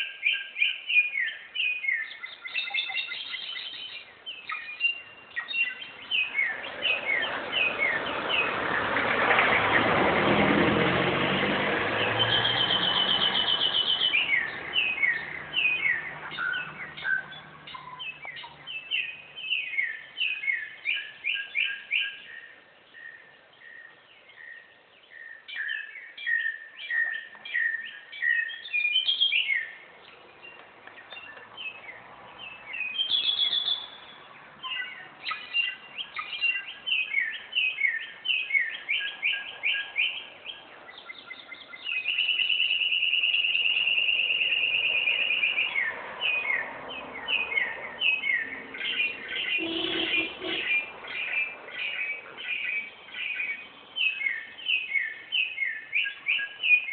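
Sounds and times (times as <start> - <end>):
bird chirping and trilling: 0.0 - 10.0, 11.7 - 56.9.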